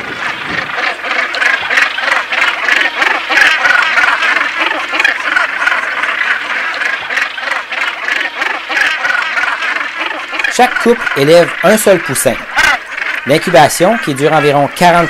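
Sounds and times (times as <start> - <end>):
gannet colony calling: 0.0 - 15.0.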